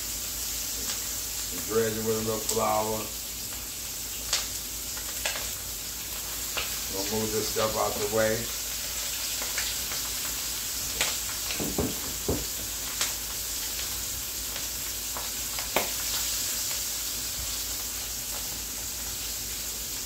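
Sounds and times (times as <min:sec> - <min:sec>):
vegetables sizzling in a skillet: 0:00.0 - 0:20.0.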